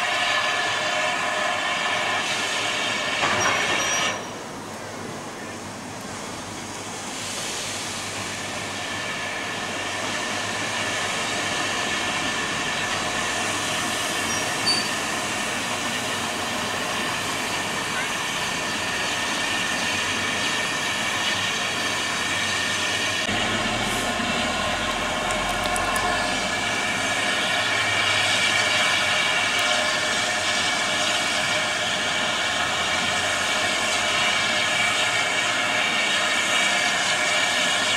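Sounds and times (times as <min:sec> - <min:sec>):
steam hissing: 0:00.0 - 0:37.9.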